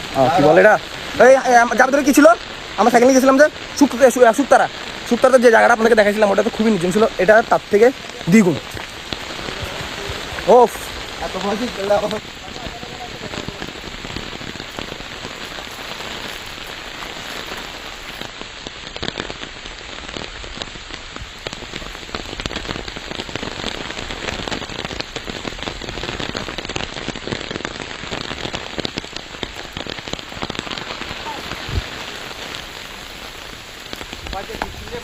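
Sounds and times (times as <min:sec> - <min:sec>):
raindrops ticking close by: 0:00.0 - 0:35.0
steady rain falling: 0:00.0 - 0:35.0.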